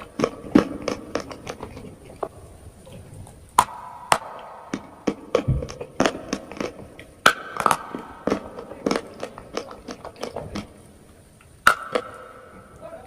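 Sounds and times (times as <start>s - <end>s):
loud crack of chalk: 0.0s - 2.3s, 3.3s - 10.7s, 11.6s - 12.5s.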